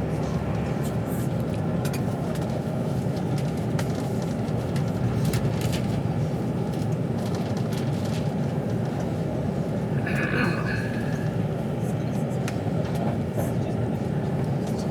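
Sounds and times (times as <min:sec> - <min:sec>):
train rumbling at speed: 0:00.0 - 0:14.9.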